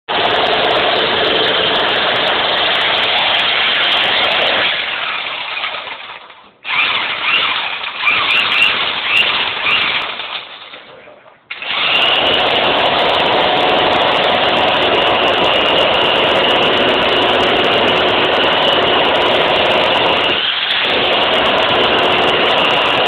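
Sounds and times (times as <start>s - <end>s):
demolition hammer chiselling rock: 0.1s - 10.8s, 11.5s - 23.0s.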